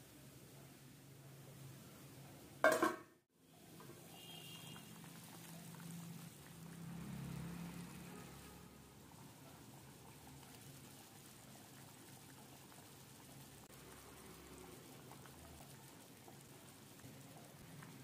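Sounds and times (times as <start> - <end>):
curry bubbling in a pan: 1.2 - 18.0.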